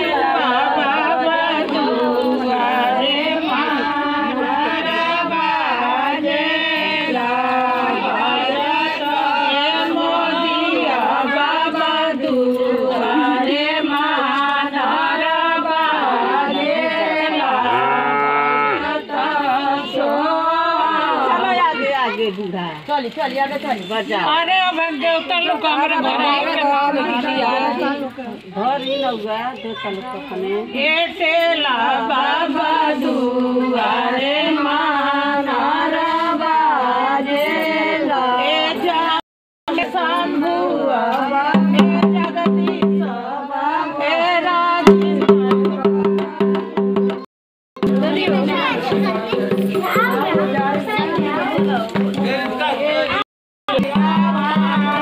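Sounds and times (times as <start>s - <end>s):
group of women singing: 0.0s - 22.2s, 24.2s - 28.8s, 30.6s - 45.5s, 50.4s - 55.0s.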